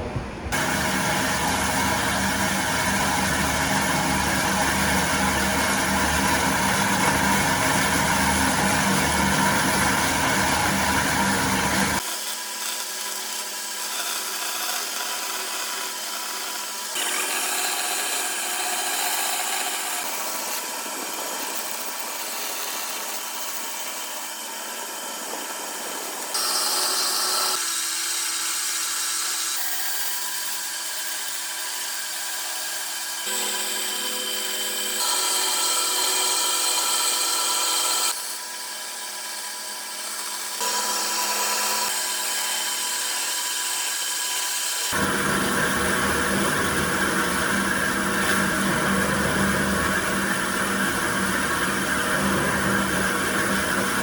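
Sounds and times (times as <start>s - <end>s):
woodworking power tools running: 0.0s - 54.0s.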